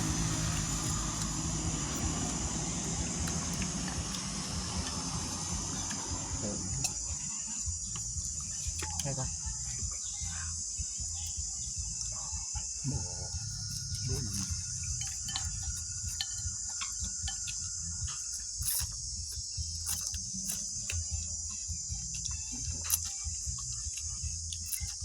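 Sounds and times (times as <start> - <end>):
low hum: 0.0 - 24.6
high-pitched insect chorus: 0.0 - 25.0.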